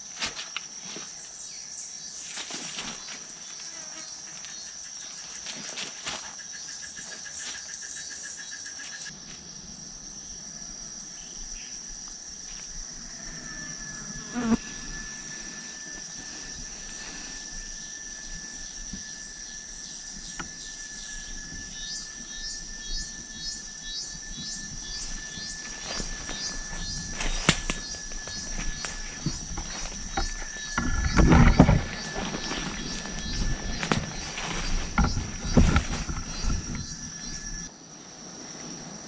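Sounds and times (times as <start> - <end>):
insect pulsing trill: 0.0 - 37.7
insects high buzz: 0.0 - 39.0
steady lower insect tone: 0.0 - 39.0.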